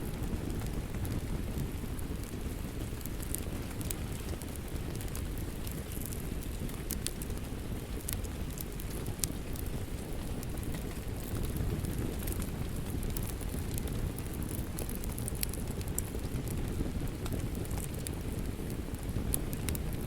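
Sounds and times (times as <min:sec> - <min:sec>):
fire pops and snaps: 0:00.0 - 0:20.0
low rumble of flames: 0:00.0 - 0:20.0.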